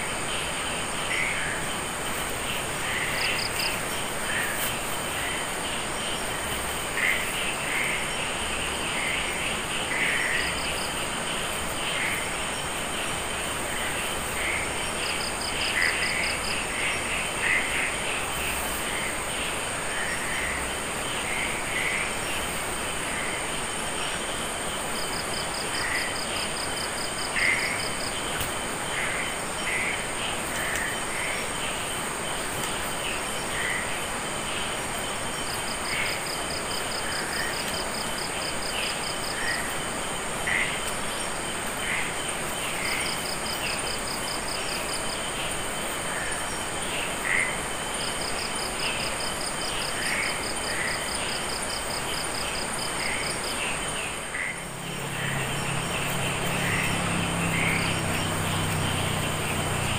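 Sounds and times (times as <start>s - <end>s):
rapid cricket-like pulses: 0.0s - 59.9s
steady hiss: 0.0s - 59.9s.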